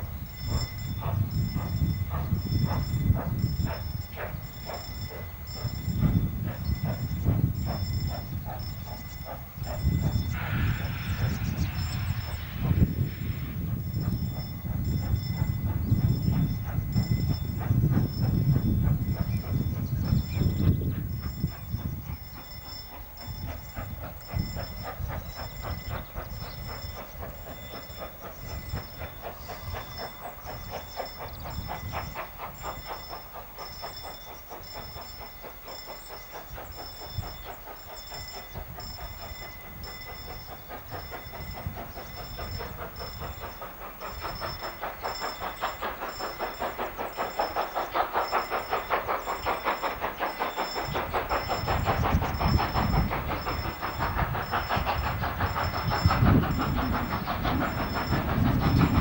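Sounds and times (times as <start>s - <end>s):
steam hiss: 0.0s - 59.0s
steam locomotive exhaust chuffs: 0.0s - 59.0s.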